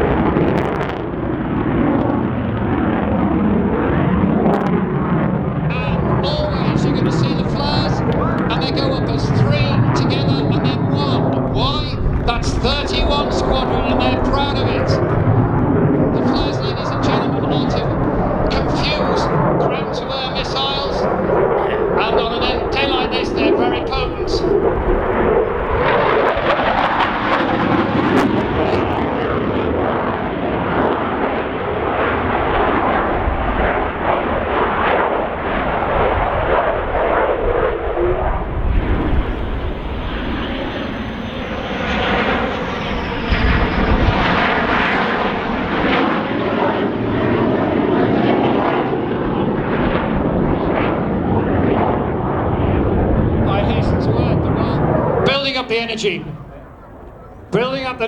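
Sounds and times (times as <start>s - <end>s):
jet engine roaring: 0.0s - 58.0s.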